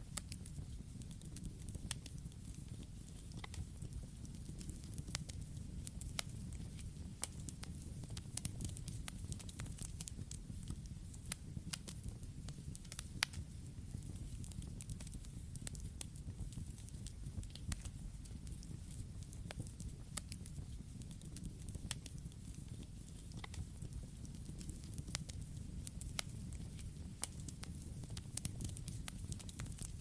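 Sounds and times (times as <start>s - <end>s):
campfire crackling and popping: 0.1s - 30.0s.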